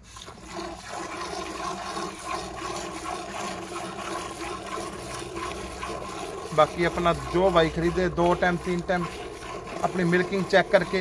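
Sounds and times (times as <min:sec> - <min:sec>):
milk squirting into steel bucket: 0:00.0 - 0:11.0.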